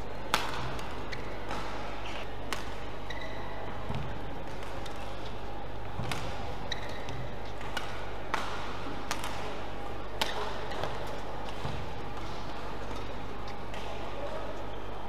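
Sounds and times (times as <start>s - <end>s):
racket hitting shuttlecock: 0.0s - 14.4s.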